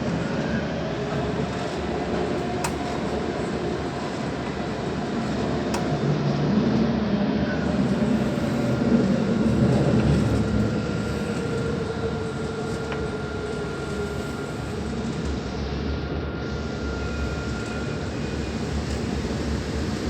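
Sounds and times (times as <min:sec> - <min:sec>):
faint tram whine: 0:00.0 - 0:20.0
tram rumbling on rails: 0:00.0 - 0:20.0.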